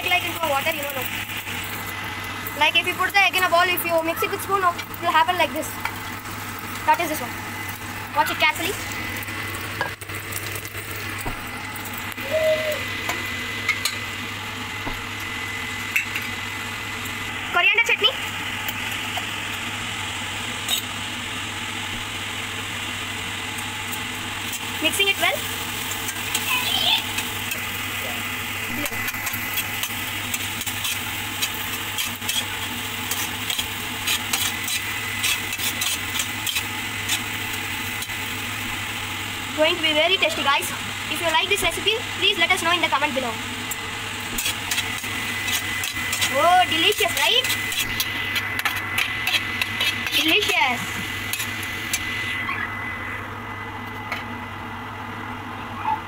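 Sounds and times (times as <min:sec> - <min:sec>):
egg and onions sizzling in oil: 0:00.0 - 0:54.6.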